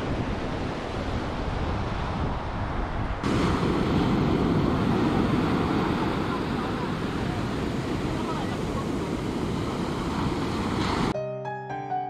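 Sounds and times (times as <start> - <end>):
wind buffeting microphone: 0.0 - 11.1
ocean surf on beach: 0.0 - 11.2.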